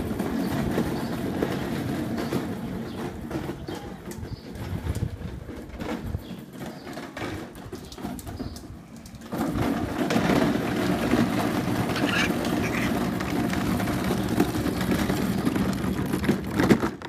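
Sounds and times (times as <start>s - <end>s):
plastic wheels rolling on concrete: 0.0s - 17.0s.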